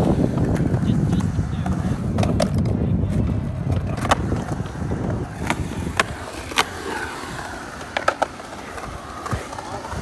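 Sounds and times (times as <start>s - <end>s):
skateboard wheels rolling on concrete: 0.0s - 10.0s
skateboards clacking on concrete: 0.0s - 10.0s.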